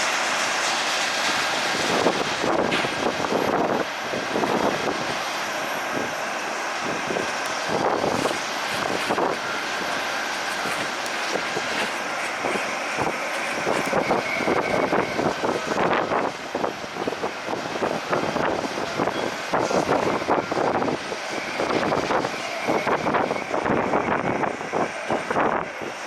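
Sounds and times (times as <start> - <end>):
faint steady whine: 0.0 - 26.0
jet engines running: 0.0 - 26.0
wind buffeting microphone: 0.0 - 26.0.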